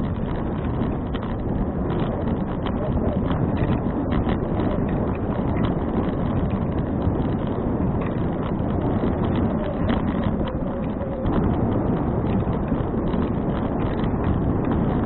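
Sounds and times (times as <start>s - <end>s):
bicycle clicks and rattles: 0.0s - 15.0s
wind buffeting microphone: 0.0s - 15.0s.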